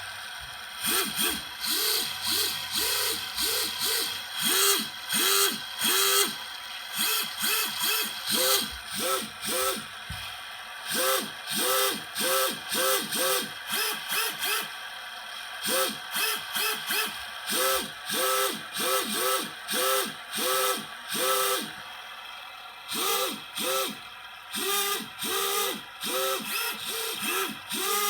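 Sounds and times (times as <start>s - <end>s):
drone motors whining: 0.0s - 14.8s, 15.6s - 22.0s, 22.9s - 28.0s.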